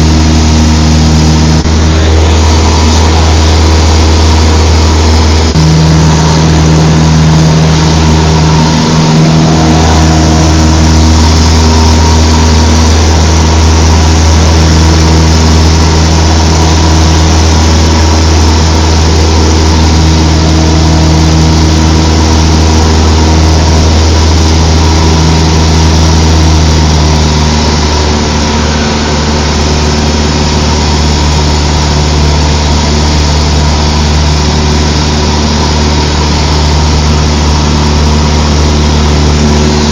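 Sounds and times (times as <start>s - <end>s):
airplane engine droning in cabin: 0.0s - 39.9s.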